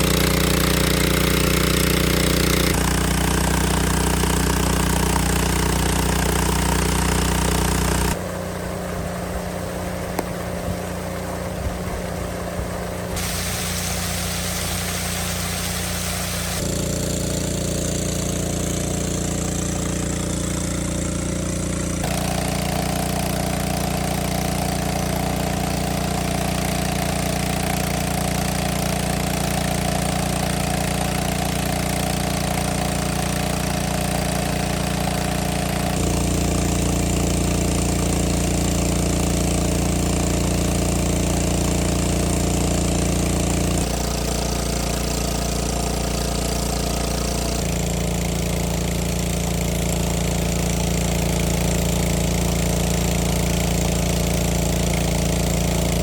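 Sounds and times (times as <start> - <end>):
small boat engine knocking: 0.0 - 56.0.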